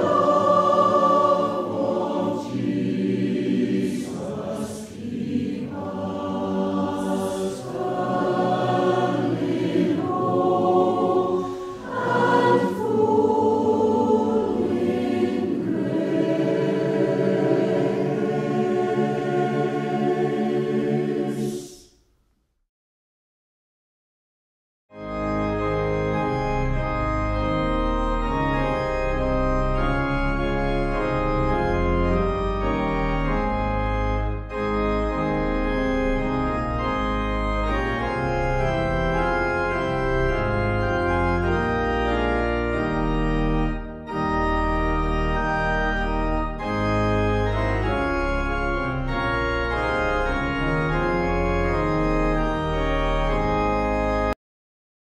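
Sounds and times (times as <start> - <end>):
organ music: 0.0 - 21.5, 24.9 - 54.4.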